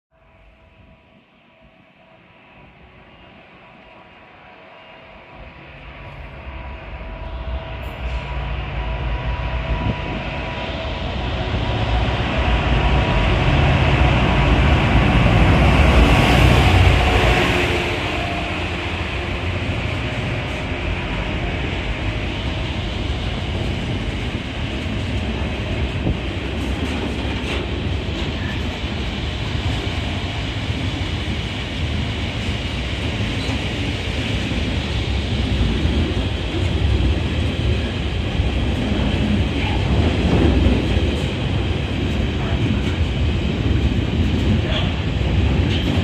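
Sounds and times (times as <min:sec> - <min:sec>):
train rumbling on rails: 0:00.1 - 0:46.0
diesel locomotive working hard: 0:02.2 - 0:46.0.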